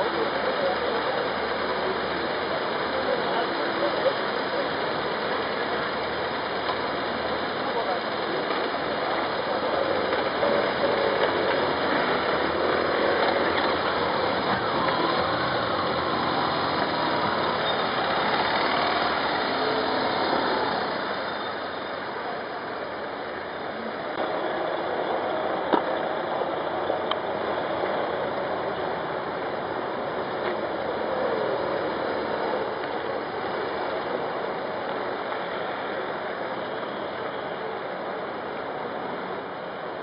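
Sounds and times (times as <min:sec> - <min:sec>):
motorcycle engines pulling away: 0:00.0 - 0:37.7
traffic noise: 0:00.0 - 0:40.0.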